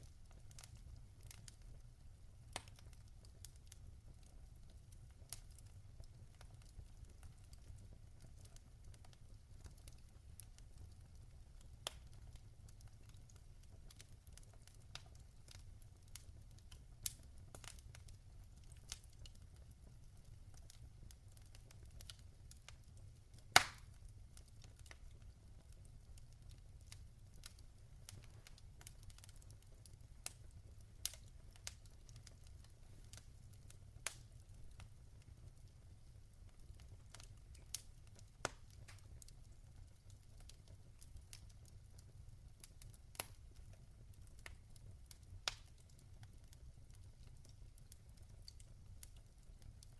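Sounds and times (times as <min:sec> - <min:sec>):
logs crackling and popping: 0:00.0 - 0:49.9
low fire rumble: 0:00.0 - 0:49.9.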